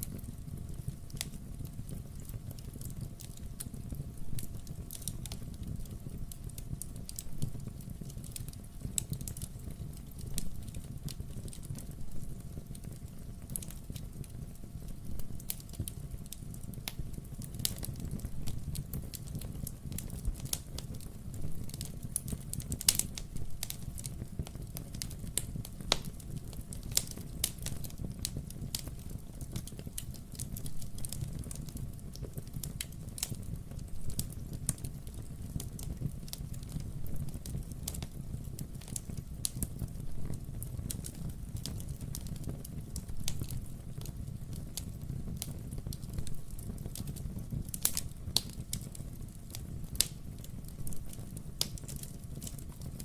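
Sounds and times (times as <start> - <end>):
crackles and pops of logs: 0.0 - 53.0
low rumble of fire: 0.0 - 53.0.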